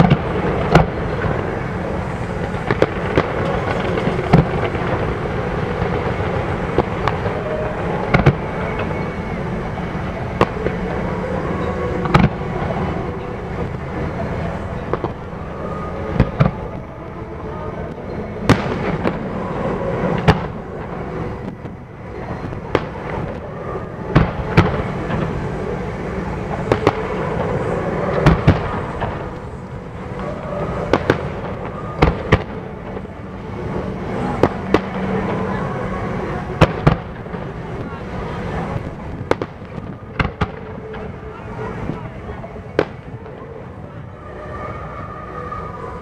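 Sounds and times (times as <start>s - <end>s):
fireworks bangs: 0.0s - 43.7s
steady background noise: 0.0s - 46.0s.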